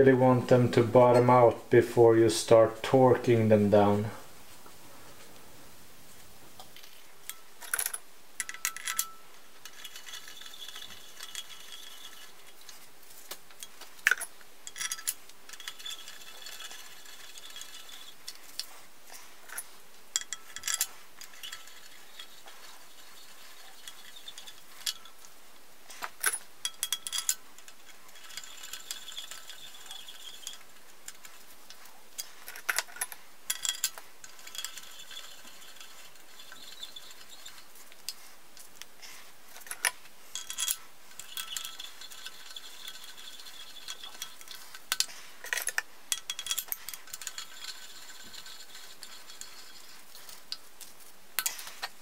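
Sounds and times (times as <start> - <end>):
metal scraping and rattling: 6.8 - 25.3, 25.9 - 38.2, 39.1 - 52.0.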